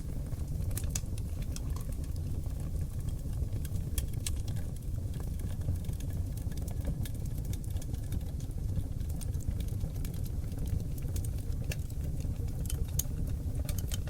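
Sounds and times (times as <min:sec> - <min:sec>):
logs burning in fireplace: 0:00.0 - 0:14.0.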